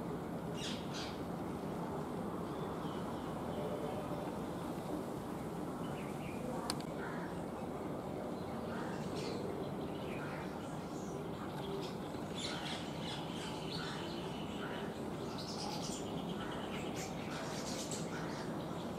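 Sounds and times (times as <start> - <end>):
outdoor background hiss: 0.0 - 18.9
birds chirping: 2.3 - 18.9.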